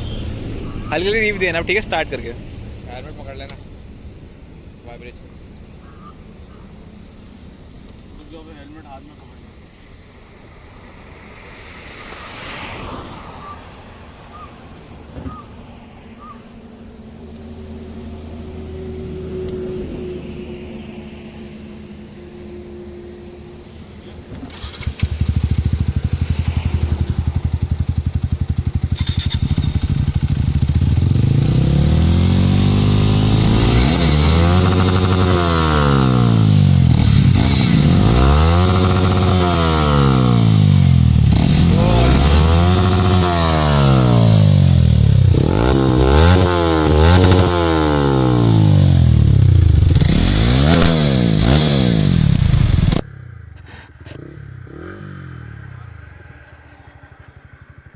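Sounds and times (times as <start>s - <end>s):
motorcycle engine idling and revving: 0.0s - 57.9s.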